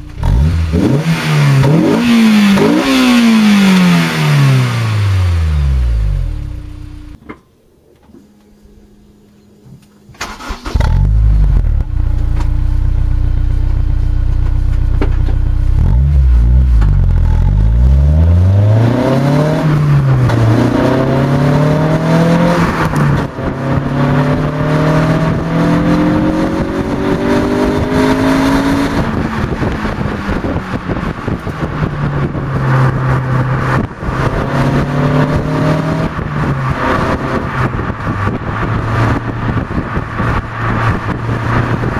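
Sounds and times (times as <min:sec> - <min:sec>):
car engine idling and revving: 0:00.0 - 0:07.2, 0:08.4 - 0:41.9.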